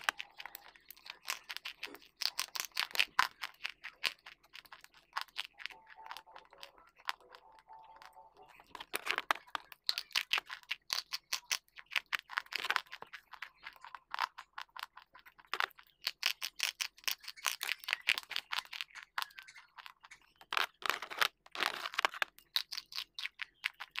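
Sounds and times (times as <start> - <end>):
crunchy chewing of chalky stick: 0.0 - 24.0.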